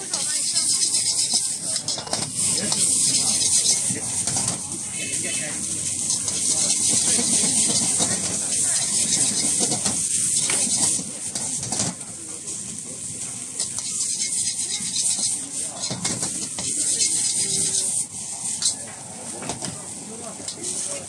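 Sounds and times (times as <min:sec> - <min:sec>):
ladle scraping and clanking in wok: 0:00.0 - 0:12.0, 0:13.2 - 0:19.8
frying hiss: 0:00.0 - 0:21.0.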